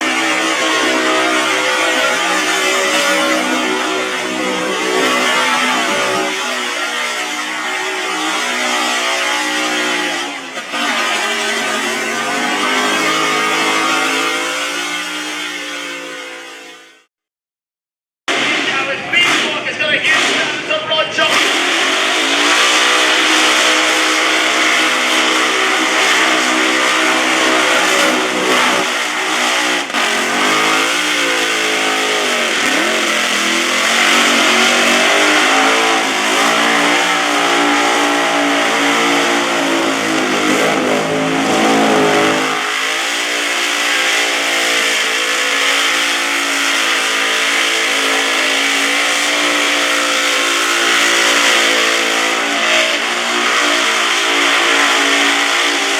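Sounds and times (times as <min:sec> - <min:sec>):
car engine at high revs: 0:00.0 - 0:17.1, 0:18.3 - 0:55.9.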